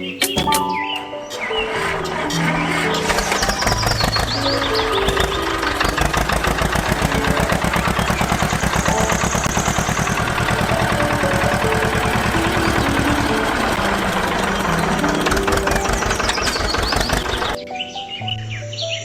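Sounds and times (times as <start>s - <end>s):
background music with melody: 0.0s - 19.0s
engine chugging: 1.7s - 17.6s.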